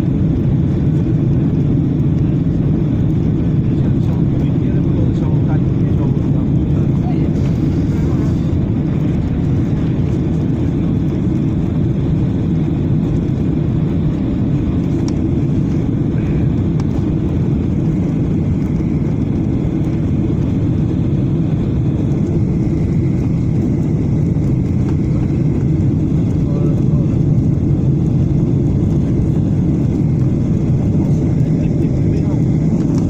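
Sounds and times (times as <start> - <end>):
air rushing over wing: 0.0 - 33.0
jet engines low roar in cabin: 0.0 - 33.0.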